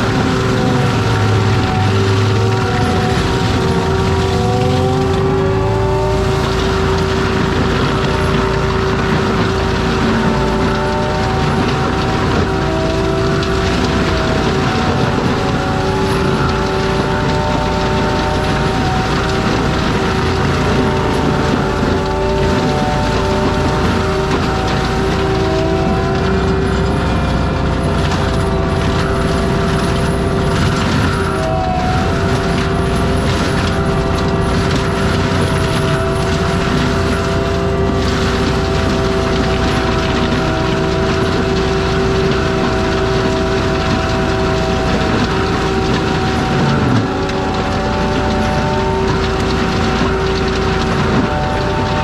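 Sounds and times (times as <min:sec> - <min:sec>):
diesel engine rumble: 0:00.0 - 0:52.0
multi-tone mulcher whine: 0:00.0 - 0:52.0.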